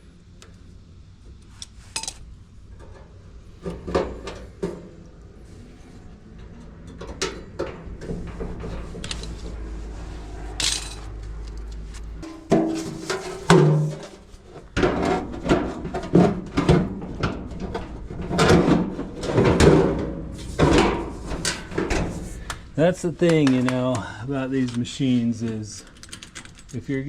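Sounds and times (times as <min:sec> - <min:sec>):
steady low hum: 0:00.0 - 0:26.0
dryer parts clattering: 0:01.8 - 0:05.1, 0:06.2 - 0:27.0.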